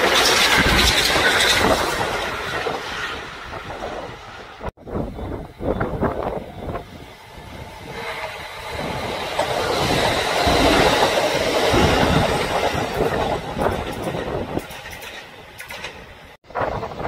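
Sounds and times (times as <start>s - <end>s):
train clattering on rails: 0.0s - 17.0s.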